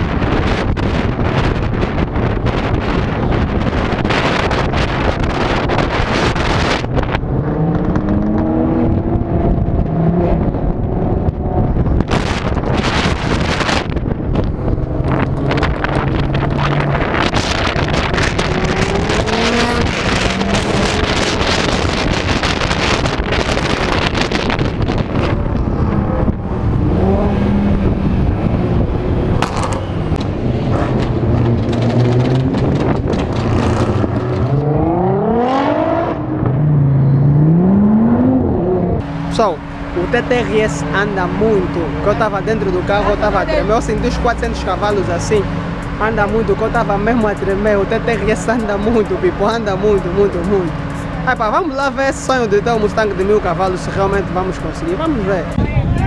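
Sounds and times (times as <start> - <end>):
turbocharged engine revving: 0.0 - 56.0
wind buffeting microphone: 0.0 - 56.0.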